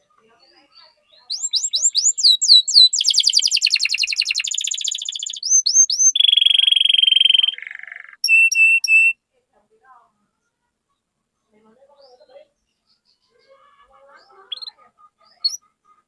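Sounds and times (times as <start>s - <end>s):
canary singing: 0.0s - 9.2s, 10.2s - 16.0s.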